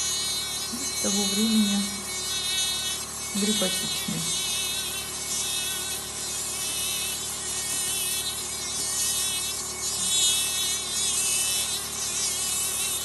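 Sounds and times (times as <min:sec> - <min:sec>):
nail drill whining: 0:00.0 - 0:13.0.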